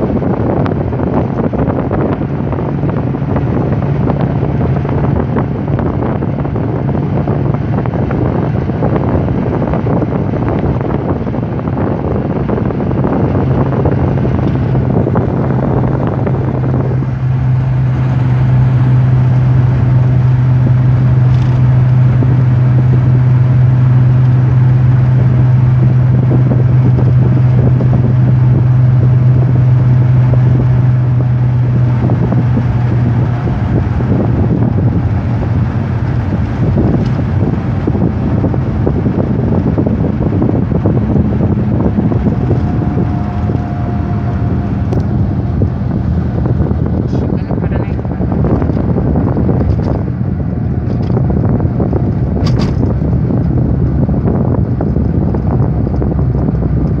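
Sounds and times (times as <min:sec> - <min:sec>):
car engine drone: 0:00.0 - 0:57.0
road and wind noise: 0:00.0 - 0:57.0.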